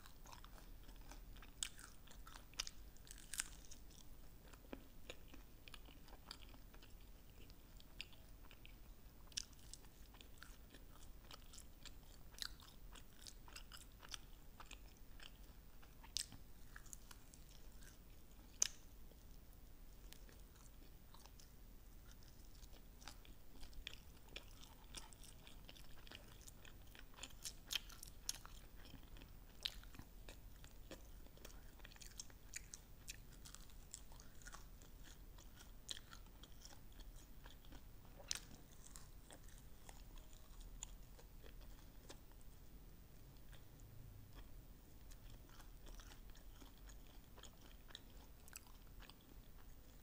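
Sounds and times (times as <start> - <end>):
chewing chicken wings: 0.0 - 18.8, 22.0 - 42.3, 45.1 - 50.0.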